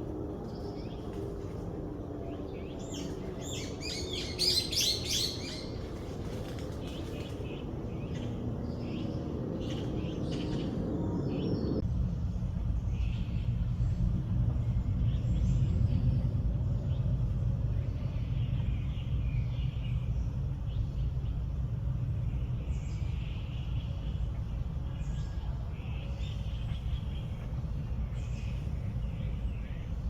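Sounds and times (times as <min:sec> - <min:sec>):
steady low rumble: 0:00.0 - 0:30.0
small birds chirping: 0:00.1 - 0:30.0.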